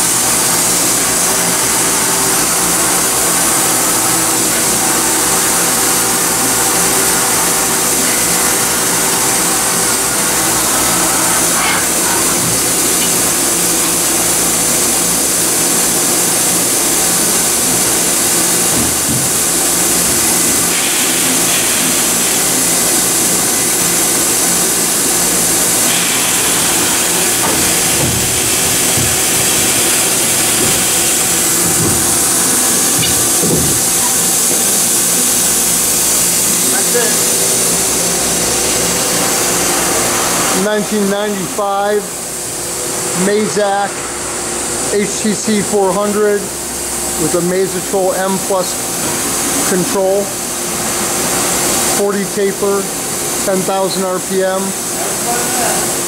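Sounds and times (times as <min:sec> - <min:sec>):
machine hissing: 0:00.0 - 0:56.0.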